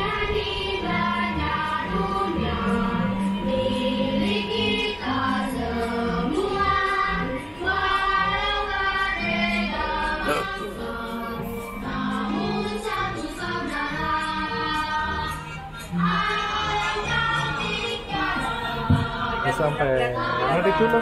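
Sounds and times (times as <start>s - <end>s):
choir singing over loudspeakers: 0.0s - 21.0s.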